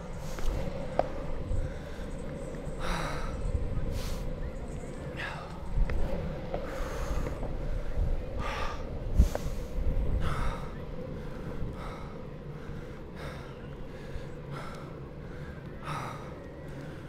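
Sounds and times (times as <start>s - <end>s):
rider breathing hard: 0.0s - 4.4s, 5.2s - 17.0s
longboard wheels rolling on asphalt: 0.0s - 17.0s.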